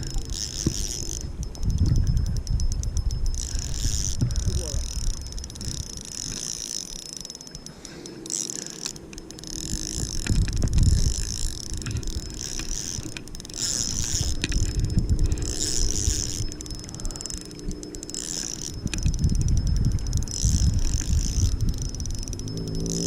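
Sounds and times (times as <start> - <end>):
wind rumbling on microphone: 0.0 - 7.6, 8.9 - 23.0
fishing reel whirring: 0.0 - 23.0.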